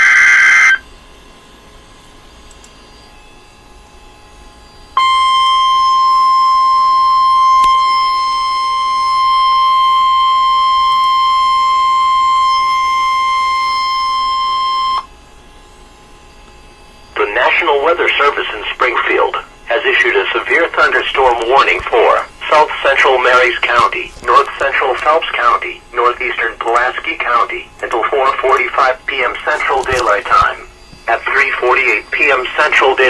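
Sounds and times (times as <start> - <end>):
steady high alarm tone: 0.0 - 1.2, 2.8 - 33.0.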